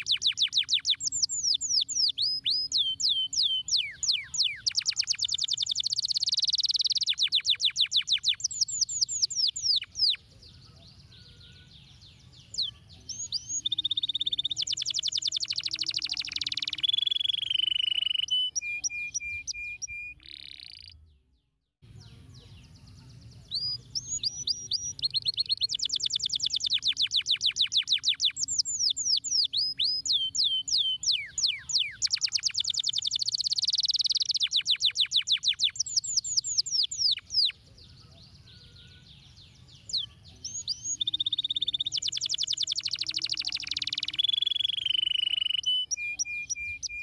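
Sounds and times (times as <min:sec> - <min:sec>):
canary singing trills: 0:00.0 - 0:21.2, 0:21.8 - 0:47.0.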